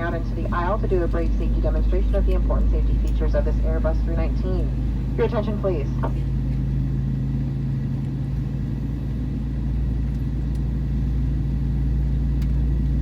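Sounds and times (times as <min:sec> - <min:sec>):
airplane cabin drone: 0:00.0 - 0:13.0
rumble: 0:00.0 - 0:13.0.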